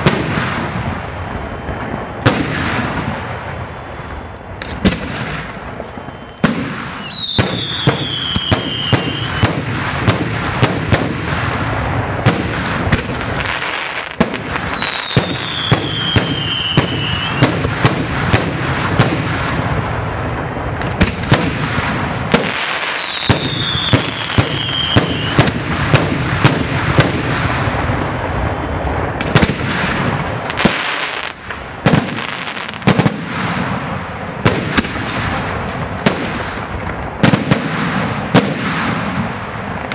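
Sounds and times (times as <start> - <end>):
falling firework whistles: 0.0 - 39.9
firework crackle: 0.0 - 39.9.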